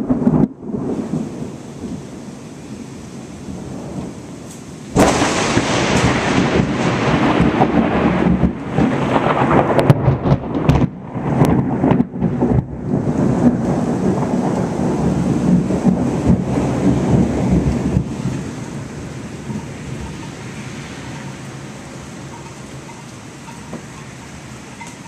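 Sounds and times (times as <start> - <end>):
thunder cracks: 0.0 - 2.0, 4.9 - 24.0
heavy rain: 0.0 - 25.0
thunder rumbling: 0.0 - 25.0.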